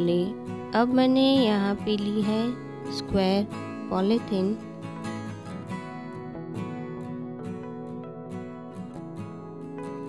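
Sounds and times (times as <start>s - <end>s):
instrumental music with plucked guitar: 0.0s - 10.0s.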